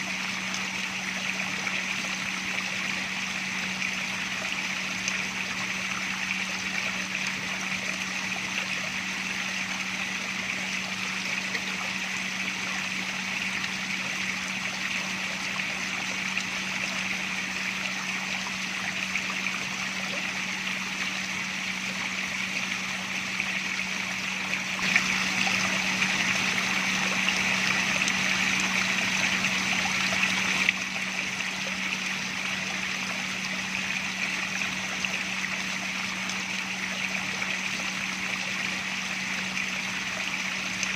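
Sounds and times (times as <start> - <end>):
low steady hum: 0.0 - 40.9
water trickling and splashing: 0.0 - 40.9.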